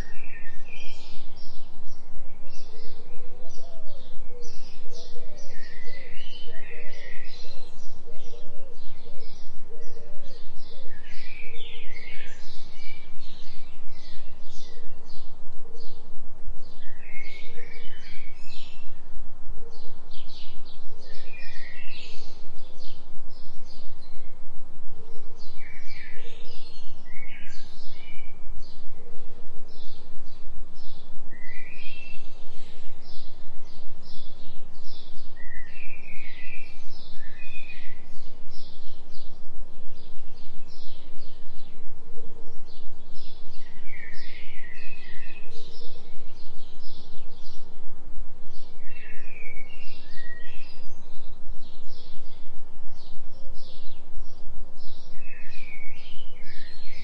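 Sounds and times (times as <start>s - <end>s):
forest birds chirping: 0.0s - 57.0s
low binaural beat hum: 0.0s - 57.0s.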